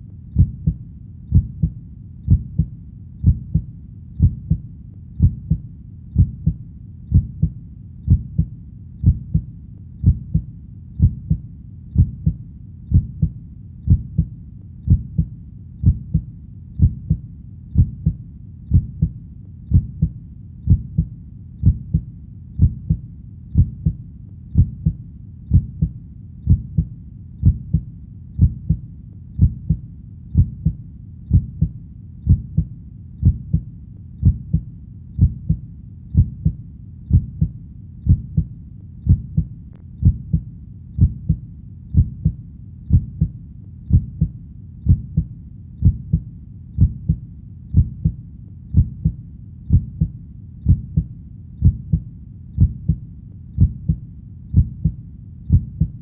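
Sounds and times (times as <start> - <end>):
human heartbeat: 0.0 - 56.0.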